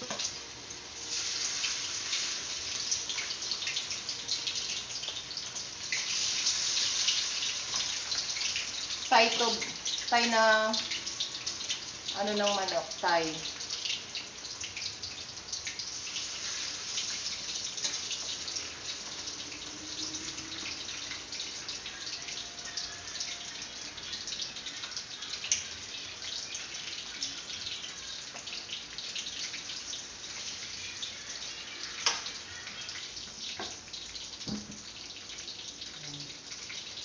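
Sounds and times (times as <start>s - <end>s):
chicken frying in hot oil: 0.0s - 37.0s.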